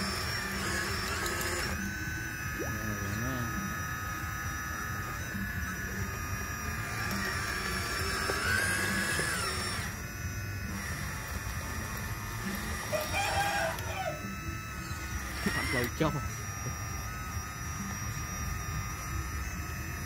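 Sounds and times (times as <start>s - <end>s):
toy excavator motors whining: 0.0s - 20.0s.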